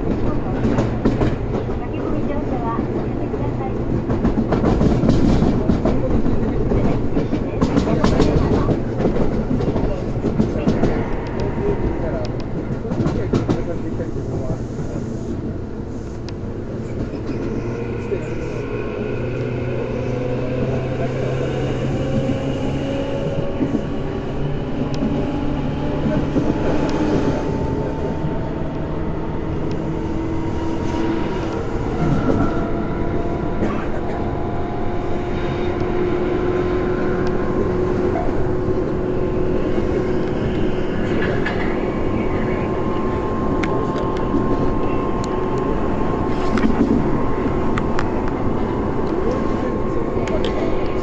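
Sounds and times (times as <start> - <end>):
rail clicks: 0.0 - 15.5, 16.1 - 28.8, 35.4 - 51.0
train wheels rumbling on rails: 0.0 - 51.0.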